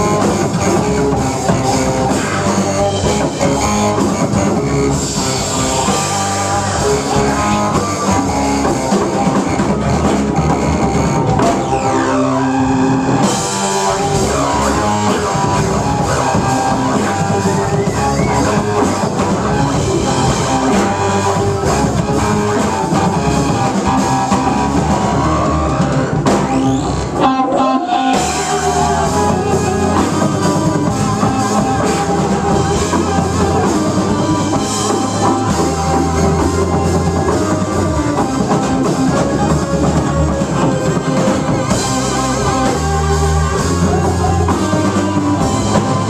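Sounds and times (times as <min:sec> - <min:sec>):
bass guitar: 0:00.0 - 0:46.0
drum kit: 0:00.0 - 0:46.0
electric guitar: 0:00.0 - 0:46.0
organ keyboard: 0:00.0 - 0:46.0.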